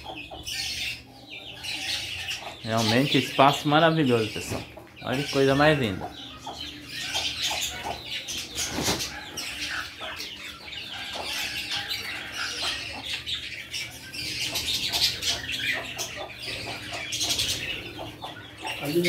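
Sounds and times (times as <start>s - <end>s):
birds chattering: 0.0s - 19.0s.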